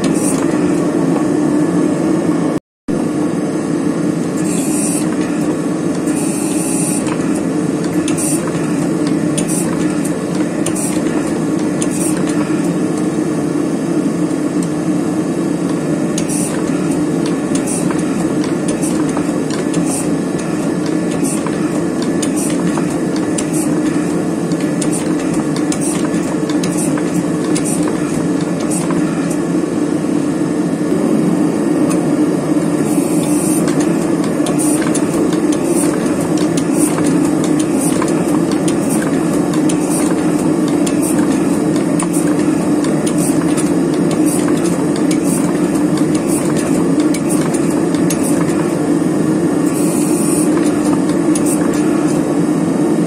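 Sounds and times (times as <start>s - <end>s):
gas burner roaring: 0.0s - 53.0s.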